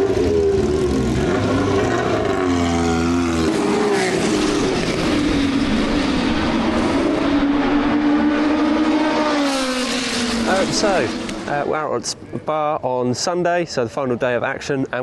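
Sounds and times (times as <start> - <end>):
racing car engines: 0.0 - 12.1.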